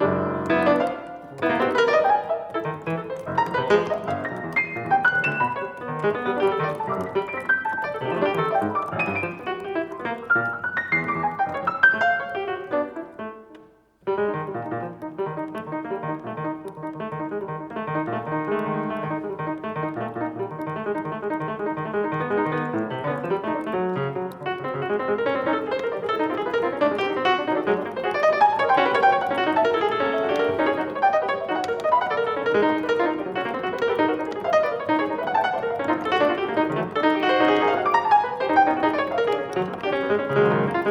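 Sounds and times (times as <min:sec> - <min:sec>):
solo piano: 0:00.0 - 0:40.9.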